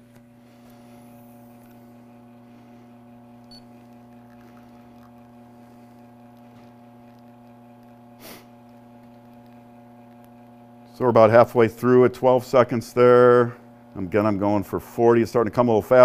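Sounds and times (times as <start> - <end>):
espresso machine pump humming: 0.0 - 16.0.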